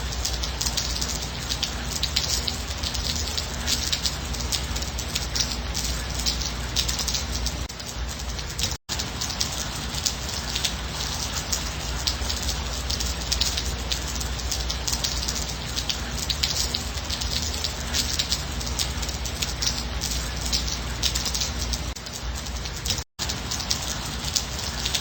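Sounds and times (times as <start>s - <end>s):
gentle rain pattering: 0.0s - 25.0s.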